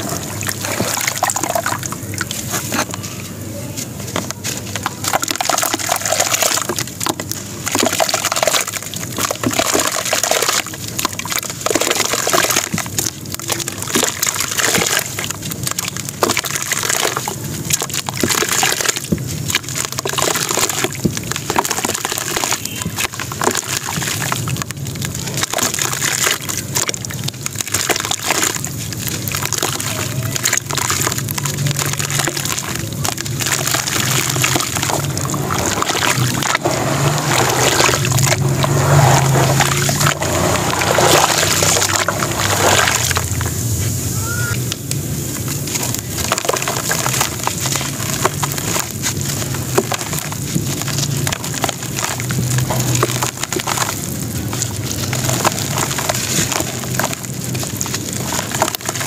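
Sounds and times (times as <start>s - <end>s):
grit pouring into water: 0.0s - 3.1s, 4.1s - 43.8s, 44.8s - 59.0s
small water splashes: 0.0s - 43.6s, 44.6s - 59.0s
dry cement crumbling by hand: 4.1s - 43.4s, 45.6s - 59.0s.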